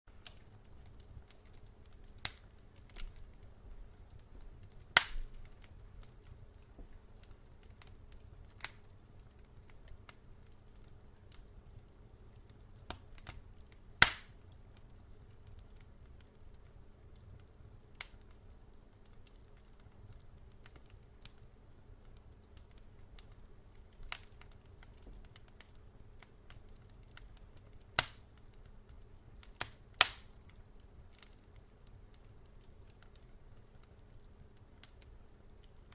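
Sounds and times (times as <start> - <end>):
campfire pops and snaps: 0.1 - 35.9
faint low hum: 0.1 - 35.9.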